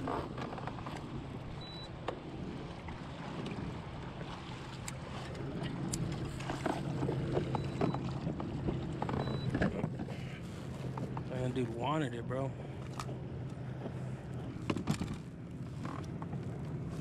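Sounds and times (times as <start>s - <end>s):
water splashing against hull: 0.0s - 17.0s.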